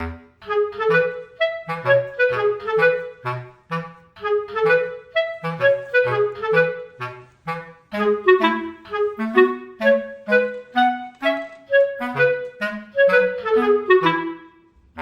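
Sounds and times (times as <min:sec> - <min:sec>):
woodwind playing bouncy tune: 0:00.0 - 0:15.0.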